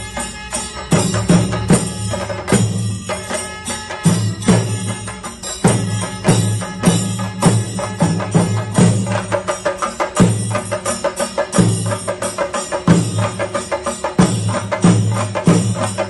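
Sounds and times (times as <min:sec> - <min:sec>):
rapid sharp drumming: 0:00.0 - 0:16.0
ringing brass hand cymbals: 0:00.0 - 0:16.0.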